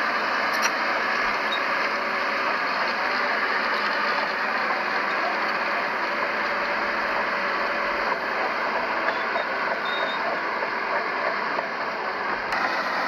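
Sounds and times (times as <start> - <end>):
bulldozer engine and running gear: 0.0 - 13.0.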